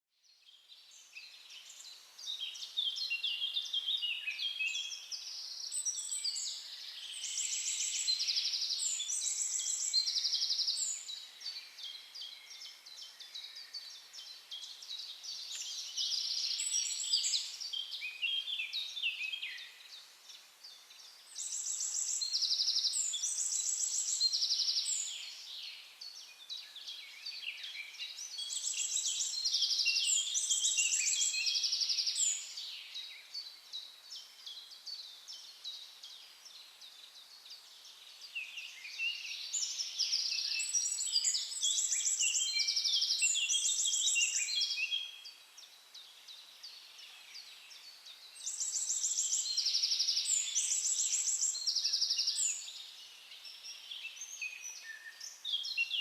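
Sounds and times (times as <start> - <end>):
songbirds singing: 0.1 - 56.0.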